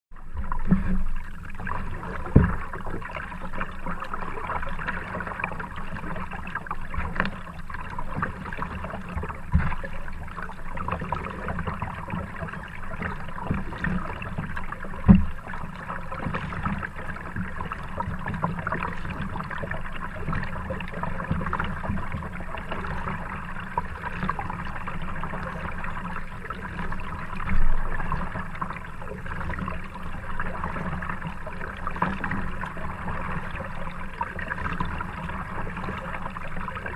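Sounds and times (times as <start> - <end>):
water trickling along hull: 0.1 - 36.9
paddle strokes splashing: 0.2 - 36.9.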